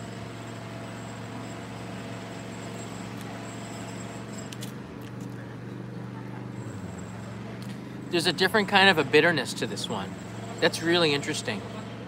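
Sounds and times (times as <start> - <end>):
low hum of street background: 0.0 - 12.0.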